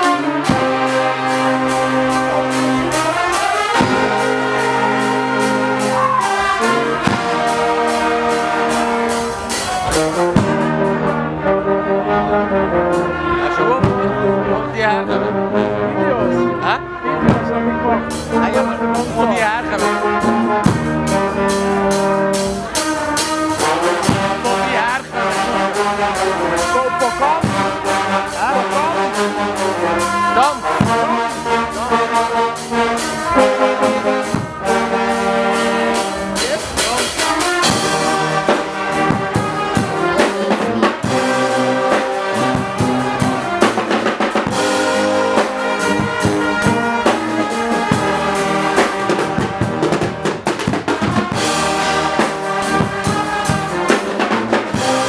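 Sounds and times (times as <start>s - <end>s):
drums keeping a steady beat: 0.0s - 11.7s, 12.6s - 14.5s, 17.3s - 55.0s
trumpets and trombones: 0.0s - 55.0s.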